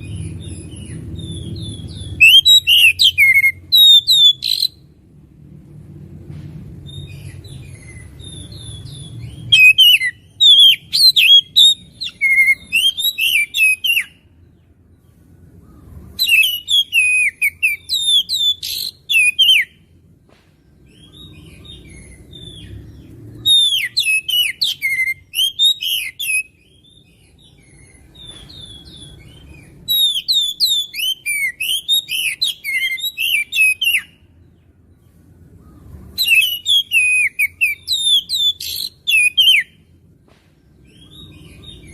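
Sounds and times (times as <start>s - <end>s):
bird singing whistles and chirps: 0.0s - 4.8s, 6.8s - 14.3s, 15.8s - 19.9s, 20.9s - 34.3s, 35.6s - 39.9s, 40.8s - 41.9s.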